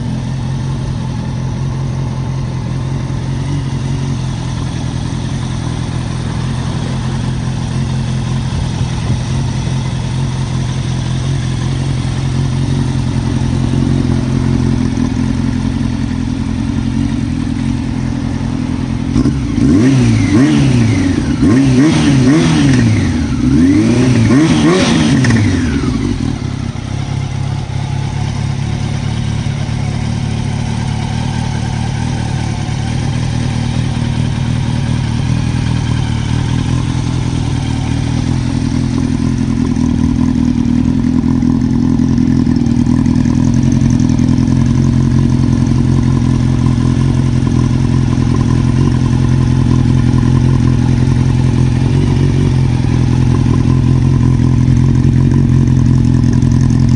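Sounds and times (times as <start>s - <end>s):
motorcycle engine revving and idling: 0.0s - 56.9s.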